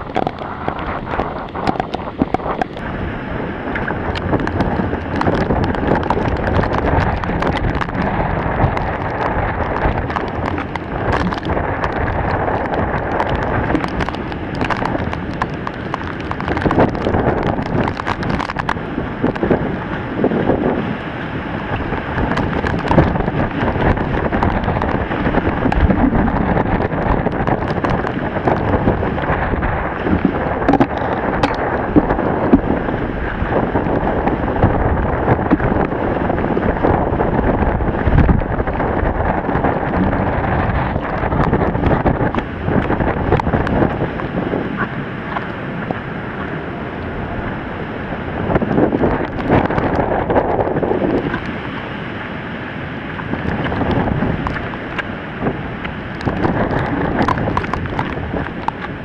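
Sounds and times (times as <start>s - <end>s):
raindrops tapping camera: 0.0s - 51.9s, 53.1s - 59.0s
heavy rain: 0.0s - 59.0s
wind buffeting microphone: 0.0s - 59.0s.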